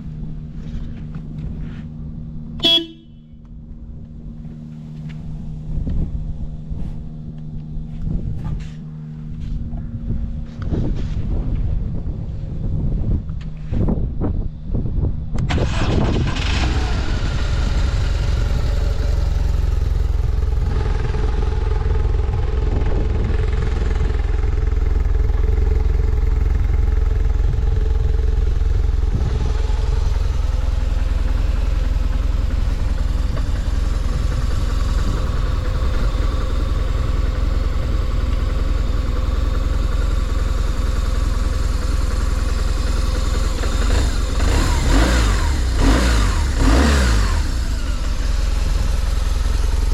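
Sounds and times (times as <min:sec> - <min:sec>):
motorcycle engine idling: 0:00.0 - 0:13.2, 0:17.0 - 0:49.9.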